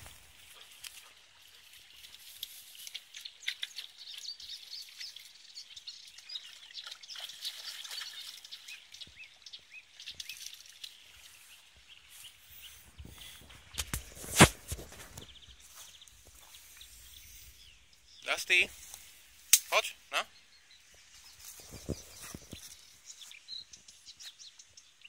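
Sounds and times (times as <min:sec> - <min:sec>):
small birds chirping and singing: 0:00.0 - 0:25.0.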